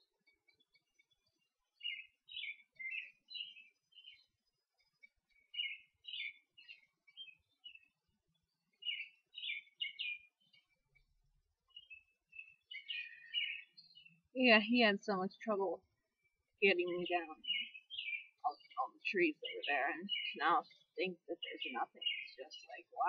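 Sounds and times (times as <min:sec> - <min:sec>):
songbirds chirping and trilling: 0:00.0 - 0:23.0.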